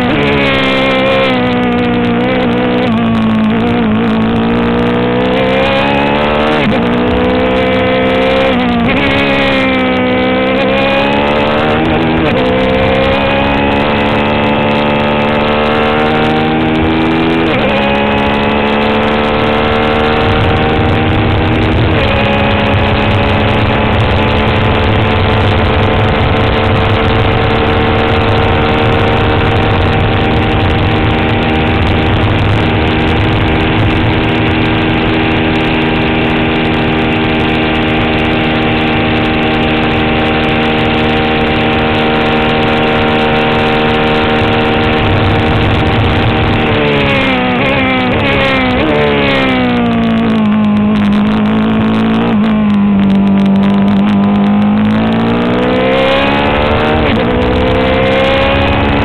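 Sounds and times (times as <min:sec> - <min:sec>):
race car engine at high revs: 0:00.0 - 0:59.0
wind and road noise: 0:00.0 - 0:59.0.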